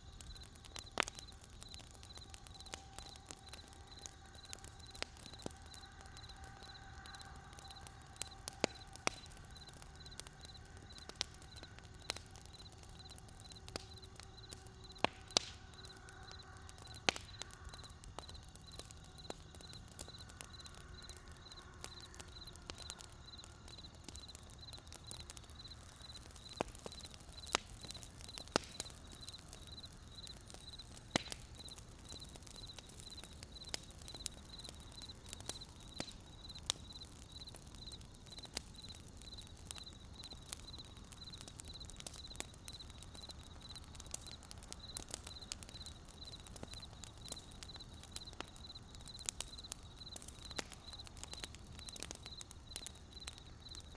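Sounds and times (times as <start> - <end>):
campfire crackling and popping: 0.0 - 53.9
low rumble of fire: 0.0 - 53.9.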